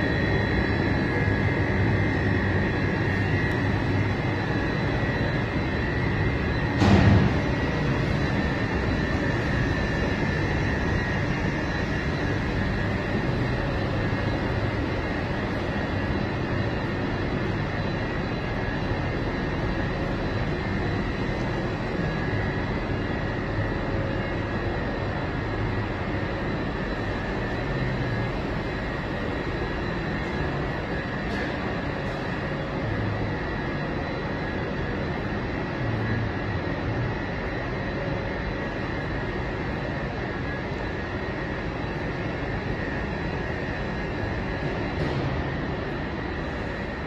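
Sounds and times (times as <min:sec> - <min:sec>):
faint high whine: 0:00.0 - 0:47.0
mechanical drone: 0:00.0 - 0:47.0.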